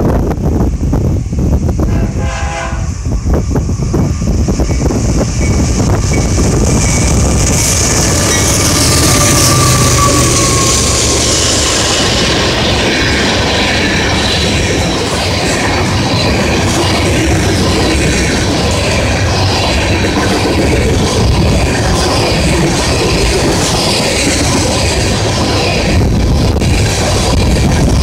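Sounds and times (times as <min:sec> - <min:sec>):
diesel locomotives passing: 0:00.0 - 0:28.0
train wheels on rails: 0:00.0 - 0:28.0.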